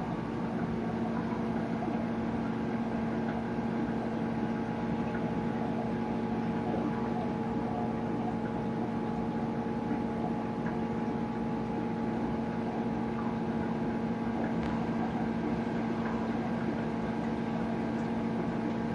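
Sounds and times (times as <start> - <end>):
aquarium pumps humming: 0.0 - 18.9.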